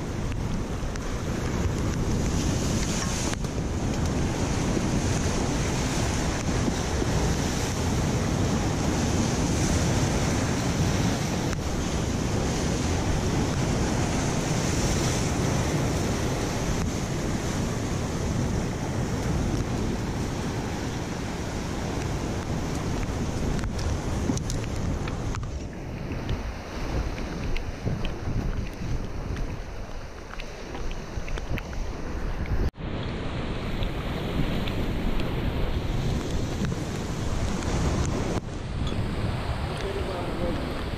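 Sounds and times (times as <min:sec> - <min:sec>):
surf breaking on rocks: 0:00.0 - 0:40.9
wind buffeting microphone: 0:00.0 - 0:40.9.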